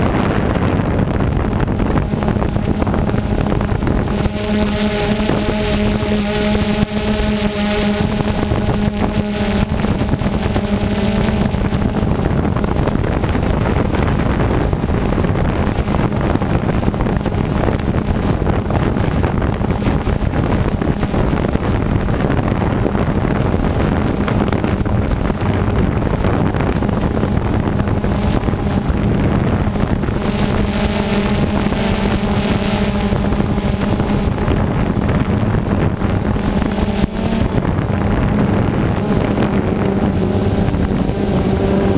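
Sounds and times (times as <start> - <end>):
drone propellers humming: 0.0 - 41.9
wind rushing over microphone: 0.0 - 41.9.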